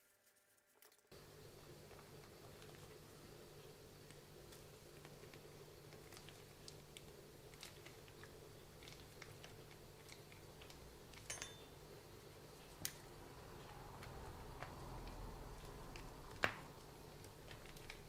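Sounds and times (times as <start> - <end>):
low steady hum: 1.1 - 18.0.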